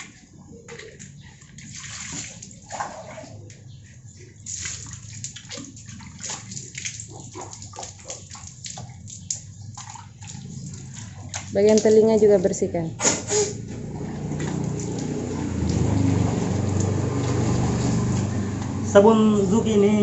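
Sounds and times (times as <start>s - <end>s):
water splashing on face: 0.0s - 3.5s, 4.4s - 18.8s.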